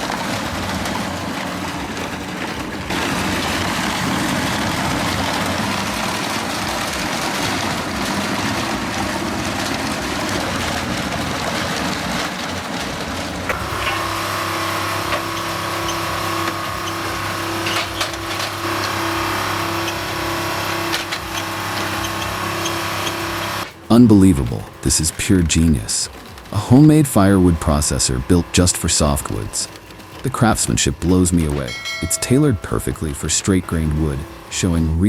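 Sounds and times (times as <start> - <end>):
engine drone: 0.0 - 35.0
heavy machinery clatter: 0.0 - 35.0.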